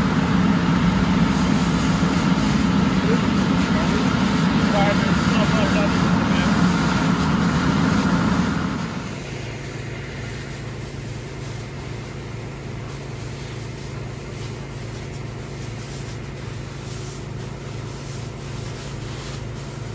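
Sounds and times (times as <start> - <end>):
engine drone: 0.0 - 19.9
fire hose spraying water: 0.0 - 19.9.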